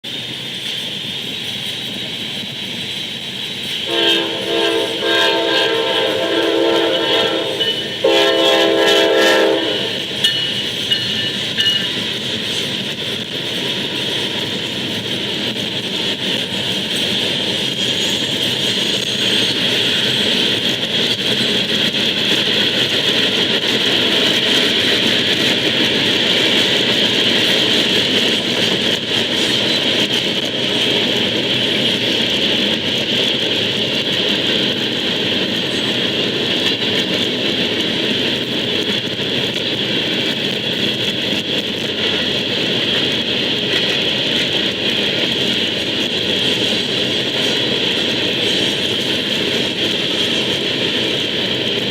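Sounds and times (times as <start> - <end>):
diesel locomotive engines running: 0.0 - 51.9.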